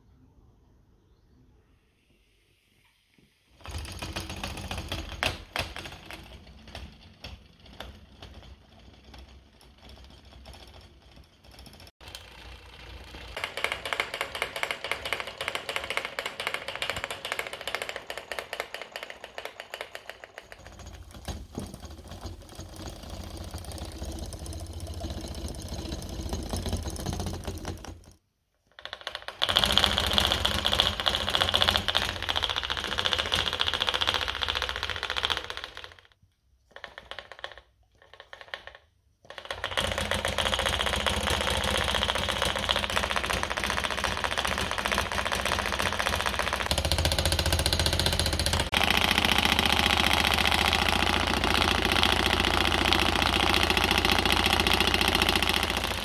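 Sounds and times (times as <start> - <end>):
small engine piston rattling: 3.6 - 56.0.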